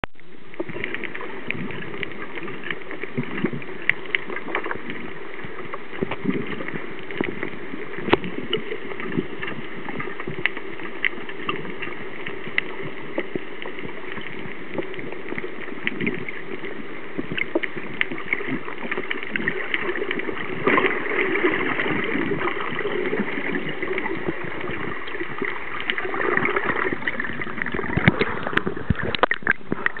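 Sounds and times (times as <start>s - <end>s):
sharp underwater clicks and crackles: 0.1s - 30.0s
muffled underwater hiss: 0.2s - 30.0s.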